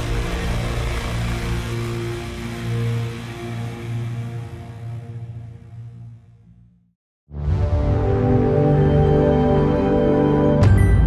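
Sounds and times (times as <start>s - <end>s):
soundtrack music with low notes: 0.0s - 11.0s.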